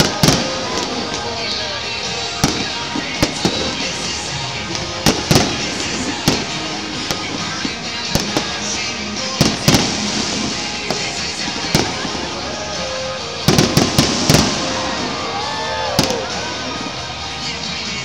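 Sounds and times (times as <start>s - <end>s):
fireworks bursting: 0.0s - 18.0s
music playing: 0.0s - 18.0s.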